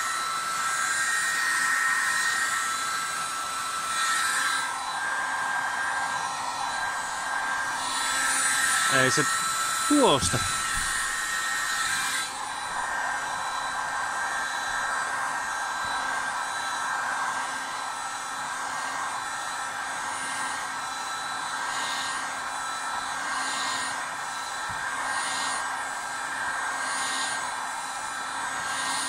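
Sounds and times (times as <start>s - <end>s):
heat gun fan hiss with whine: 0.0s - 29.0s.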